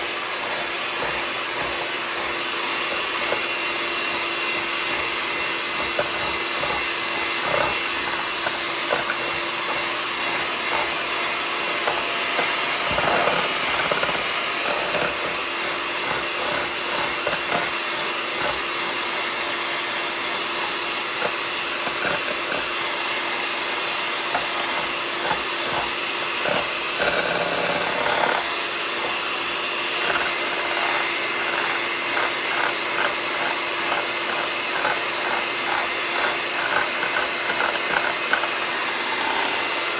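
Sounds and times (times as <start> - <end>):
electric hand mixer running: 0.0 - 39.9.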